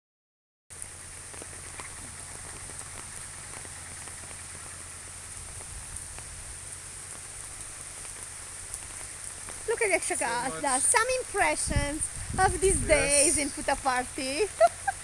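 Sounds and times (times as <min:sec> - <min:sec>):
raindrops ticking: 0:00.7 - 0:15.0
steady rain falling: 0:00.7 - 0:15.0.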